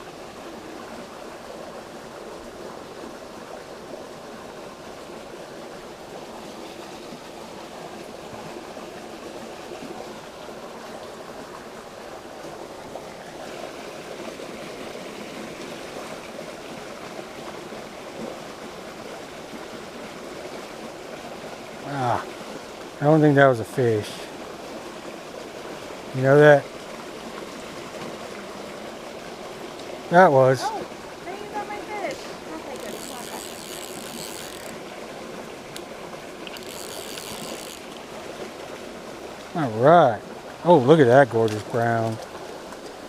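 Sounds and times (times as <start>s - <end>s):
creek running over rocks: 0.0s - 43.0s.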